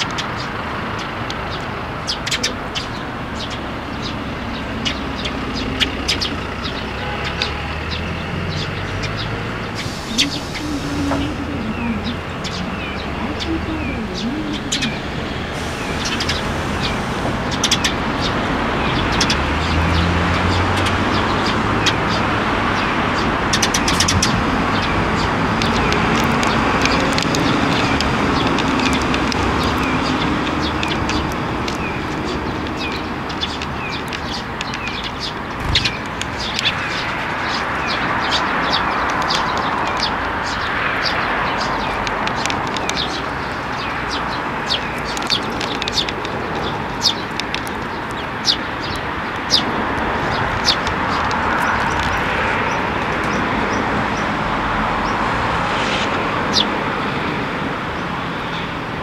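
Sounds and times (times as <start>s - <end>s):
sparrows chirping: 0.0s - 58.7s.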